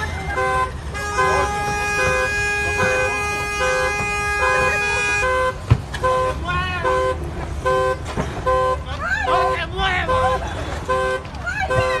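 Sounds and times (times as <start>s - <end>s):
voices shouting: 0.0s - 7.2s, 8.7s - 12.0s
car alarm beeping: 0.0s - 12.0s.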